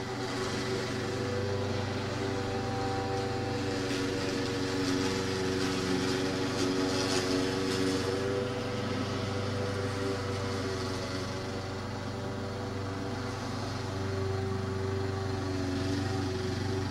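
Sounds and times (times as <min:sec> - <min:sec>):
small engine running: 0:00.0 - 0:16.9.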